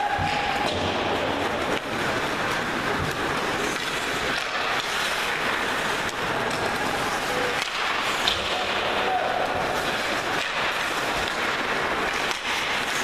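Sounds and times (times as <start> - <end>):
hockey game din: 0.0 - 13.0
skates on ice: 0.0 - 13.0
sticks clacking on puck: 0.0 - 13.0.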